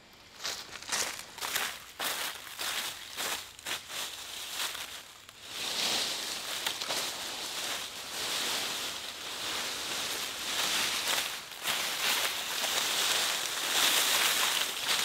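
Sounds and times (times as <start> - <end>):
footsteps crunching dry leaves: 0.3 - 15.0
leaves rustling: 0.4 - 15.0.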